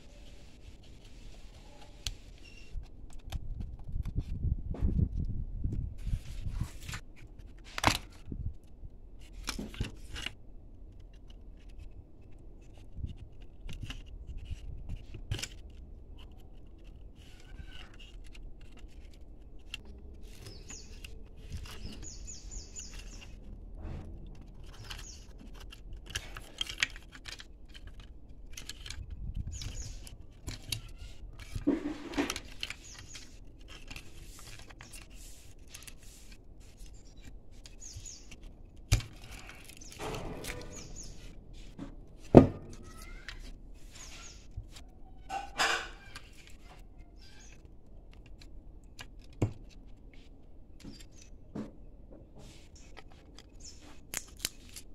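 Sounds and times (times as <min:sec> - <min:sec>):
plastic parts clicking and rubbing: 0:00.1 - 0:04.4, 0:05.0 - 0:54.9.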